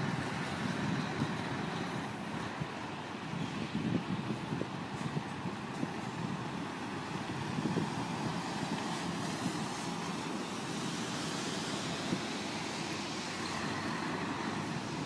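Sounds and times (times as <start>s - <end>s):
diesel truck engine rumbling: 0.0s - 15.0s
road noise hiss: 0.0s - 15.0s.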